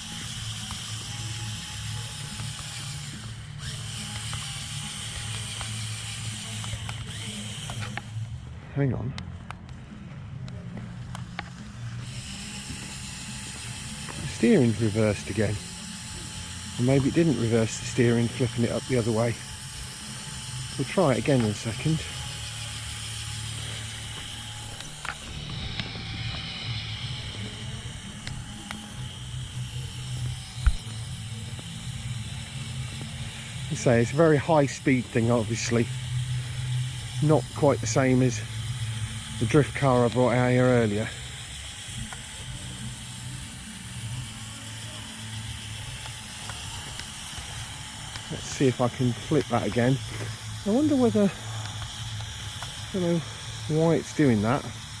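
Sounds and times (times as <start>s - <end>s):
ratcheting gear clicks: 0.0s - 8.3s, 10.4s - 55.0s
electric motor whirring: 0.0s - 55.0s.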